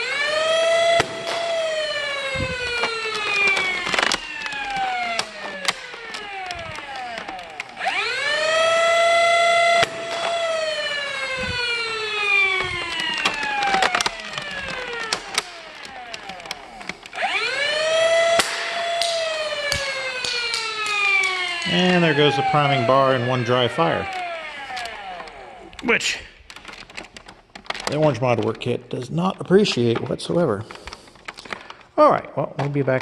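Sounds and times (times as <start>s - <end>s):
flywheel motors whining: 0.0s - 27.8s
toy blaster firing clacks: 0.0s - 28.0s.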